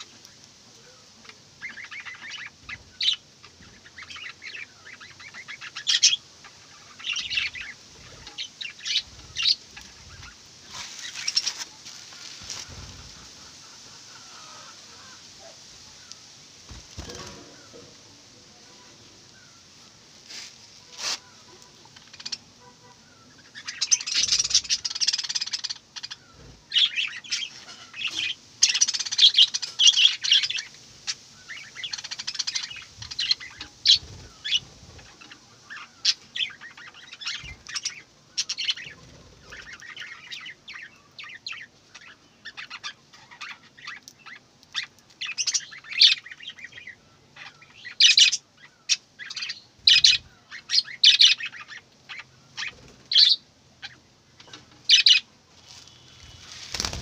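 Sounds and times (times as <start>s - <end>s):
budgerigars chirping and chattering: 1.2s - 15.2s, 21.8s - 22.6s, 23.2s - 57.0s.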